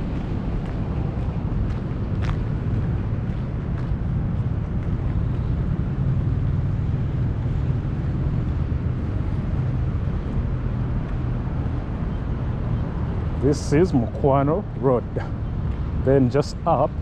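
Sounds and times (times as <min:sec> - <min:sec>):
city road traffic rumble: 0:00.0 - 0:17.0.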